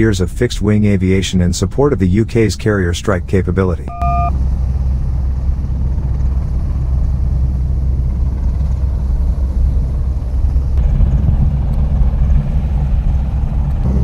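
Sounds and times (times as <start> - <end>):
jet engine low rumble: 0.0 - 14.0.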